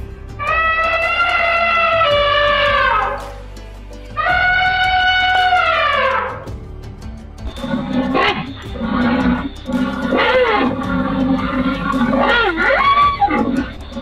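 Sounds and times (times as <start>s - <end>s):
rhinoceros growling calls: 0.4s - 3.4s, 4.2s - 6.4s, 7.6s - 14.0s.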